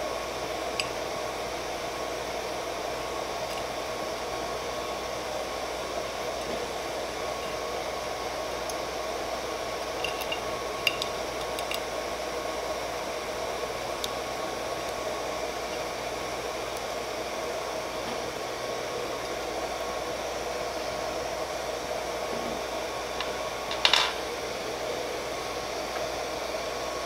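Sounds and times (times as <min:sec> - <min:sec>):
cooling fans whirring: 0:00.0 - 0:27.0.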